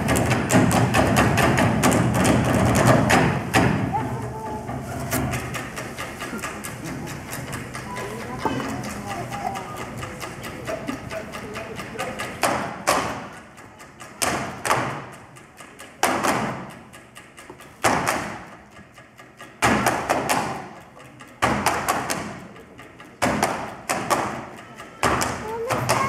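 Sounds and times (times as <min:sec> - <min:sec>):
rhythmic thumping on desks: 0:00.0 - 0:26.0.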